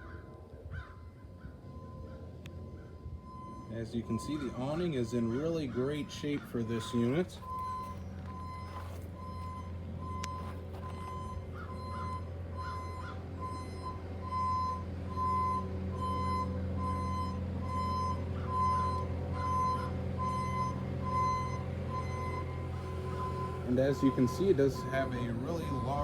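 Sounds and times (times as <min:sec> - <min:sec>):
low engine hum: 0:00.0 - 0:26.0
backup alarm beeping: 0:00.9 - 0:26.0.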